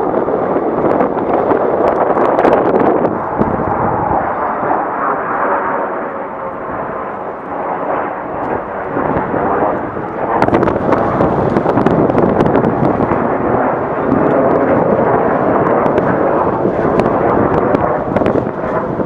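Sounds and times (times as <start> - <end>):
jet engine crackle: 0.0 - 19.0
jet engines rumbling: 0.0 - 19.0.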